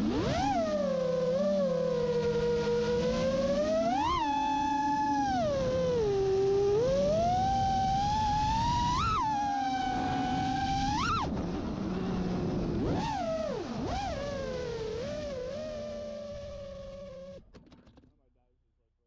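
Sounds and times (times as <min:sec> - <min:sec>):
drone motors whining: 0:00.0 - 0:17.7.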